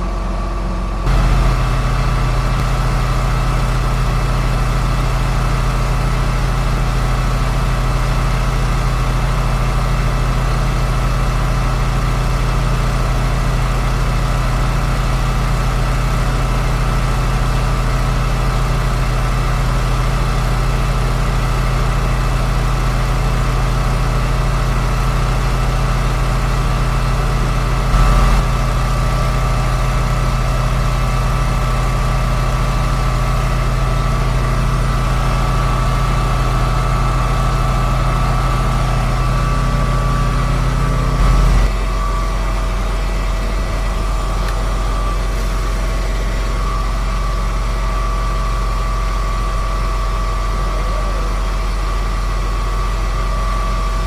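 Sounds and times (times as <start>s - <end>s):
sprayer engine droning: 0.0s - 54.0s.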